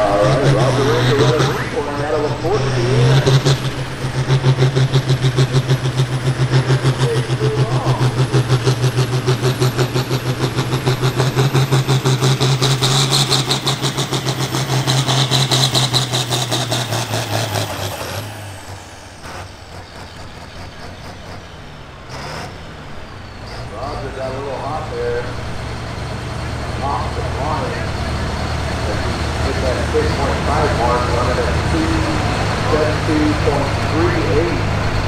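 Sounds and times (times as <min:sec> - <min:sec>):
tractor engine running under load: 0:00.0 - 0:35.0.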